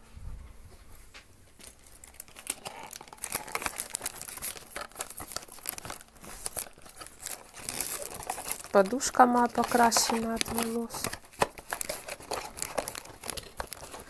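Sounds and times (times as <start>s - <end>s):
wrapping paper crumpling and tearing: 1.6s - 14.0s.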